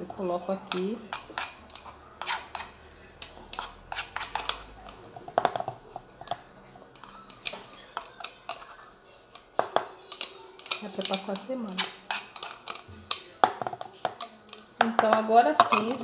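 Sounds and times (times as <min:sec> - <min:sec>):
utensil tapping and scraping plastic: 0:00.1 - 0:16.0.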